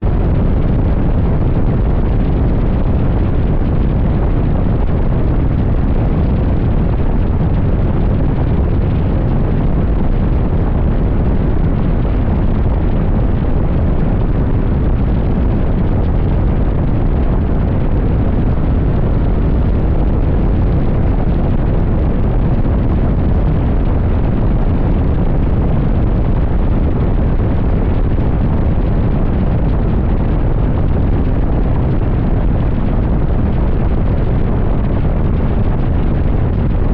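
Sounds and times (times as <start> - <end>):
wind buffeting on microphone: 0.0 - 36.9.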